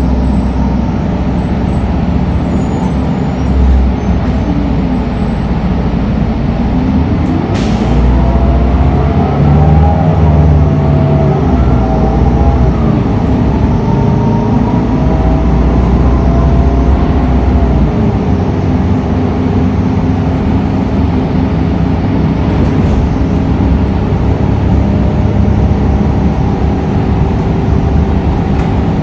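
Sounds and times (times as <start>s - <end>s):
bus engine and road rumble: 0.0s - 29.0s.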